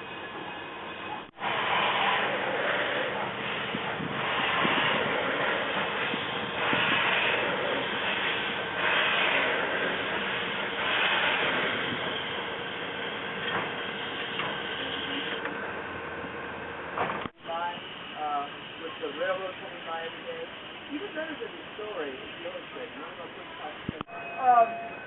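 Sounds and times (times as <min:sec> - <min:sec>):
steam train running: 0:00.0 - 0:25.0.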